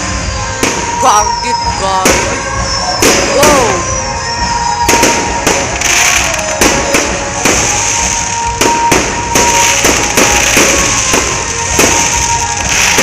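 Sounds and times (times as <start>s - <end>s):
crackling hiss of fireworks: 0.0s - 13.0s
fireworks bangs: 0.0s - 13.0s.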